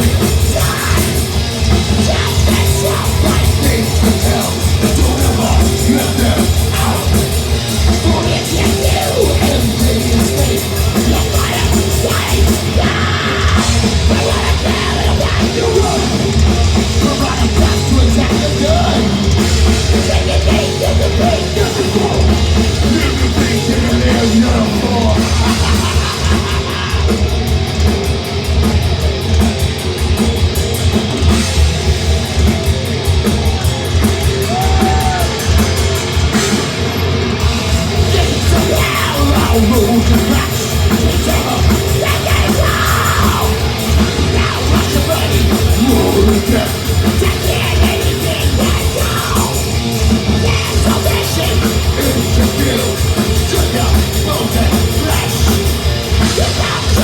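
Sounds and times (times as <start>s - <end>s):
distorted electric guitars: 0.0s - 57.0s
drum kit: 0.0s - 57.0s.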